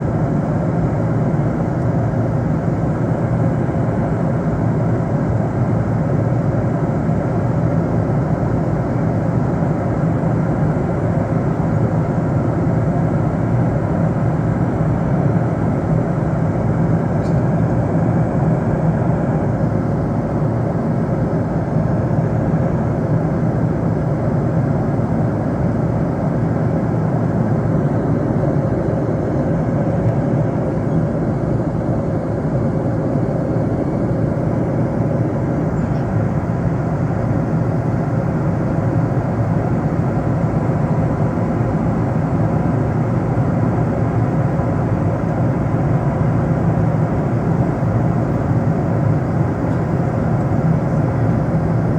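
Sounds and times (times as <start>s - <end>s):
airliner cabin engine rush: 0.0s - 51.9s
faint constant hum: 0.0s - 51.9s.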